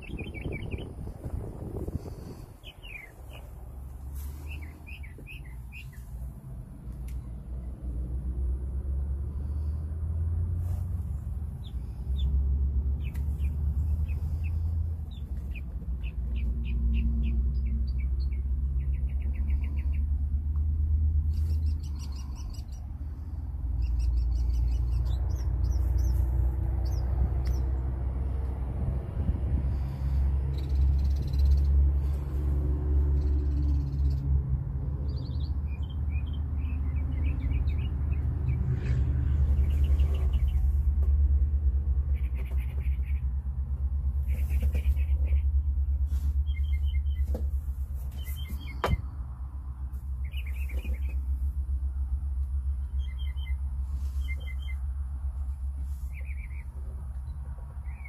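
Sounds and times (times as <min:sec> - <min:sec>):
birds chirping: 0:00.0 - 0:07.8, 0:11.0 - 0:20.4, 0:21.2 - 0:28.4, 0:29.6 - 0:34.4, 0:35.0 - 0:41.1, 0:42.0 - 0:43.4, 0:44.0 - 0:51.6, 0:52.6 - 0:58.0.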